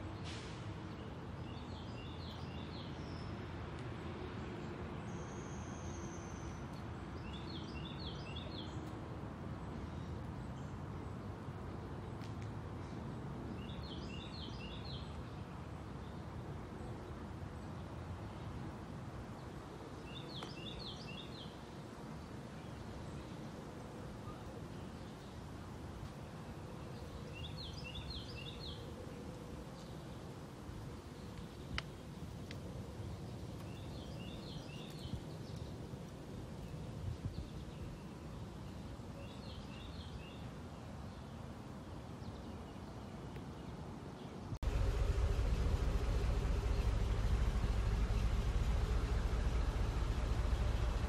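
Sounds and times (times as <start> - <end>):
low outdoor background noise: 0.0 - 51.0.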